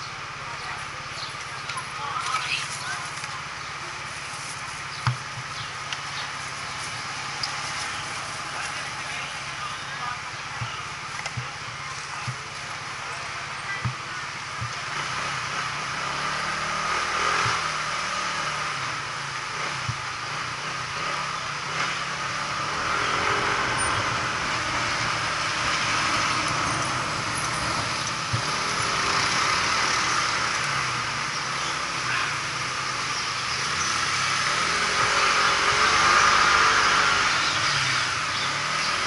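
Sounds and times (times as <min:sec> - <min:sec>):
vehicle engine hum: 0:00.0 - 0:39.0
wind and tyre hiss: 0:02.5 - 0:39.0.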